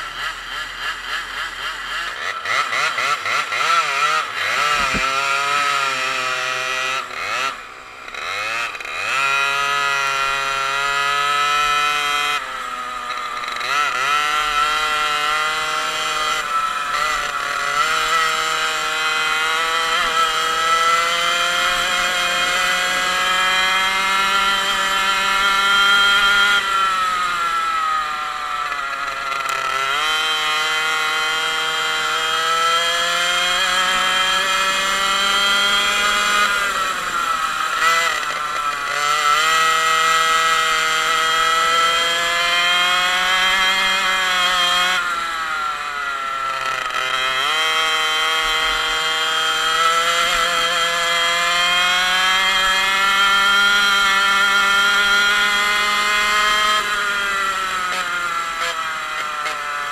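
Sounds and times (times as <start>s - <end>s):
two-stroke kart engine racing: 0.0s - 59.9s.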